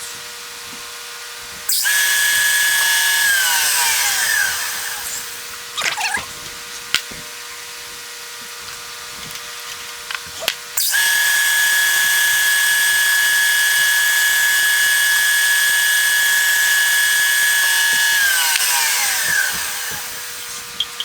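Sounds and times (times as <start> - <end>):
electric drill motor whining: 0.0 - 21.0.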